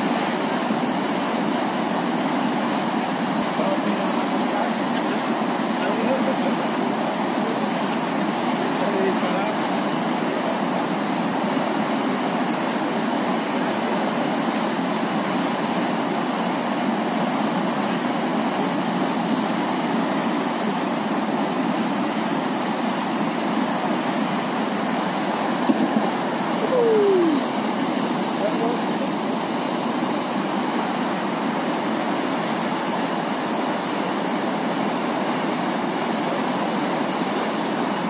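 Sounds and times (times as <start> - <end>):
whitewater rushing over a weir: 0.0 - 38.0.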